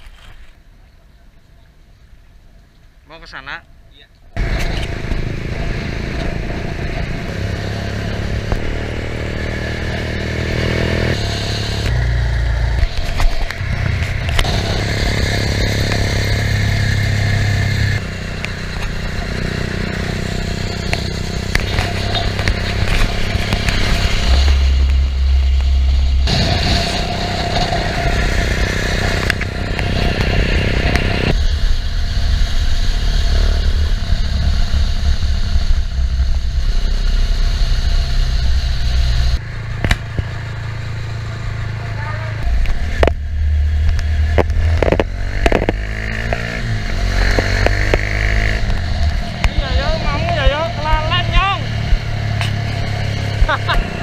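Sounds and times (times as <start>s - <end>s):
motorcycle engine running: 4.4s - 54.0s.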